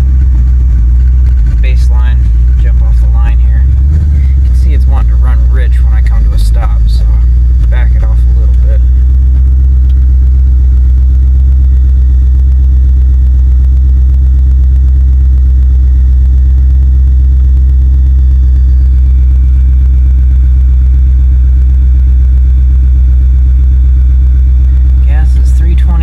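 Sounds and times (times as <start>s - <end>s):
truck engine humming: 0.0s - 26.0s.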